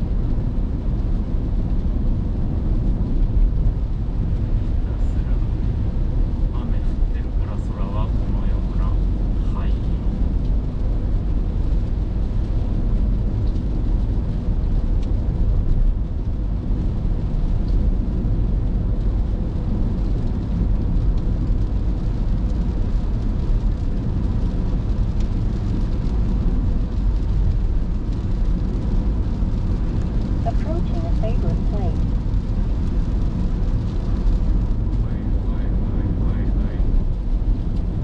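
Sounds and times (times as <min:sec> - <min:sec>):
car engine cruising: 0:00.0 - 0:38.0
tyres on wet asphalt: 0:00.0 - 0:38.0.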